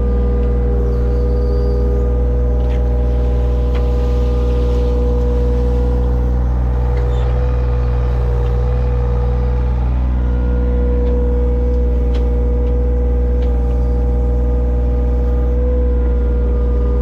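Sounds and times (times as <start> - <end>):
digging machine engine running: 0.0 - 17.0.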